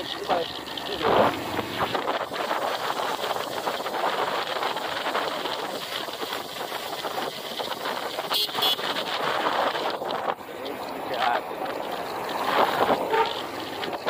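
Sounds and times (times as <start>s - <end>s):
motorbike engine running: 0.0s - 14.0s
wind rushing over microphone: 1.0s - 14.0s.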